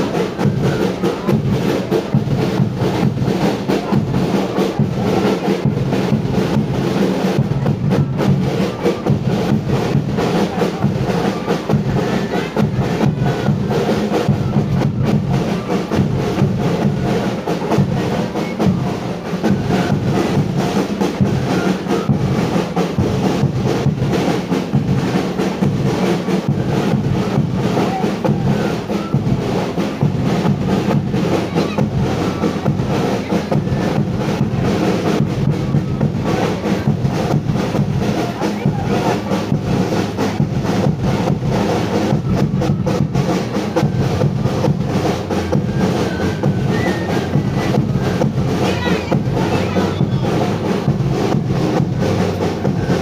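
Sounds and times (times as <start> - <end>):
drum-led music: 0.0 - 53.0.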